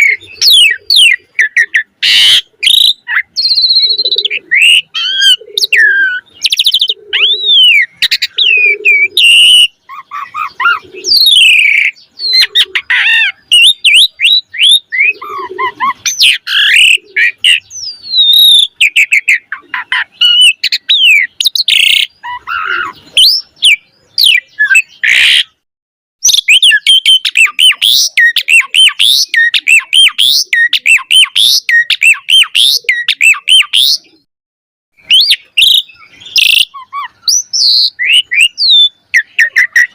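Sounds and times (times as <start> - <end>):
starling singing: 0.0 - 25.6, 26.2 - 34.3, 35.0 - 39.9.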